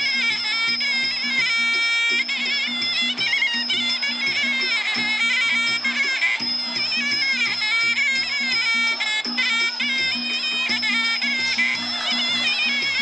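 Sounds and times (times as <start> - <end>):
drums beating: 0.0 - 13.0
shrill double-reed oboe melody: 0.0 - 13.0.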